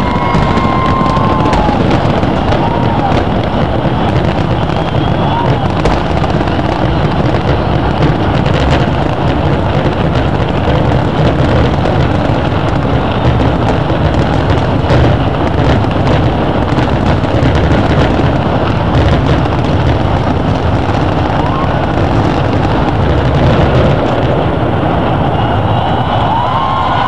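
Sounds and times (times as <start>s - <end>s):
distant fireworks rumble and crackle: 0.0s - 27.0s.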